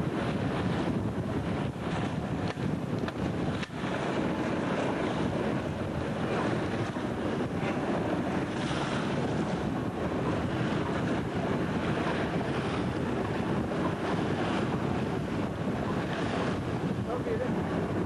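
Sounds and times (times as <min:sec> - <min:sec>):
choppy sea water rushing: 0:00.0 - 0:18.0
wind buffeting microphone: 0:00.0 - 0:18.0.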